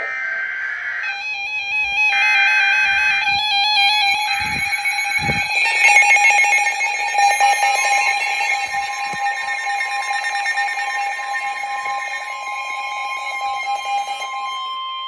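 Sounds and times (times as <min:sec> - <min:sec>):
buzzy warbling data tones: 0:00.0 - 0:14.8
music: 0:00.0 - 0:15.0
steady warning alarm tone: 0:00.0 - 0:15.0.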